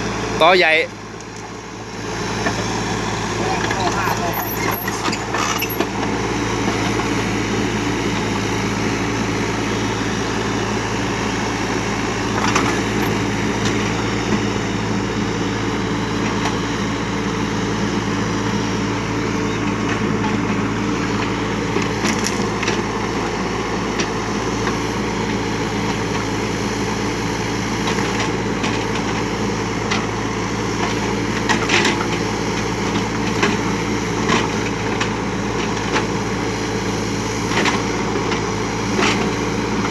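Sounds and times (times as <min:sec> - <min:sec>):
excavator engine under load: 0:00.0 - 0:39.9.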